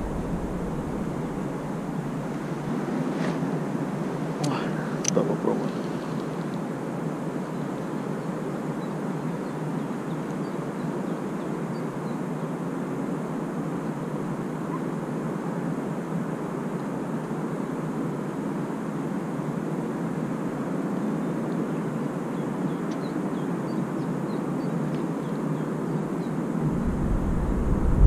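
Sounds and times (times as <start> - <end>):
outdoor background rush: 0.0 - 28.0.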